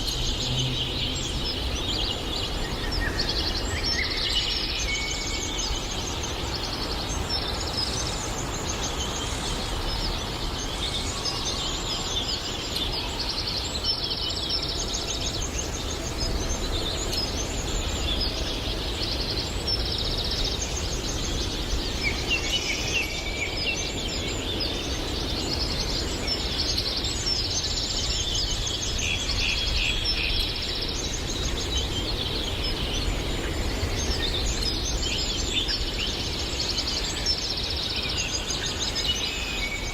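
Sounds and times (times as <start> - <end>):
forest birds chirping and trilling: 0.0 - 39.9.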